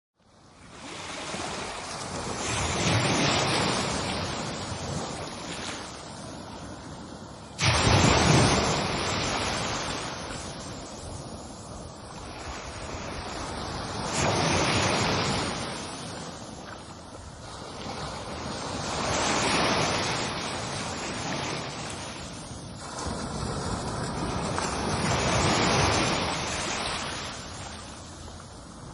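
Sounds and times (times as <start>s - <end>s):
ocean waves breaking: 0.4s - 28.9s.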